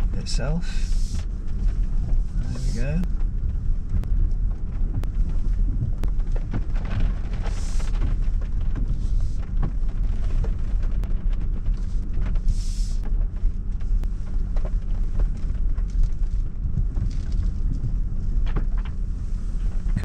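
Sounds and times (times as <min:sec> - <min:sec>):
vehicle engine low rumble: 0:00.0 - 0:20.0.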